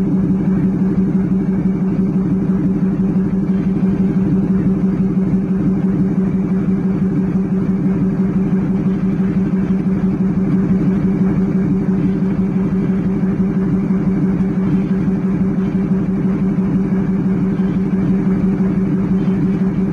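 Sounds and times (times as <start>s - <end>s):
locomotive engine drone: 0.0s - 19.9s.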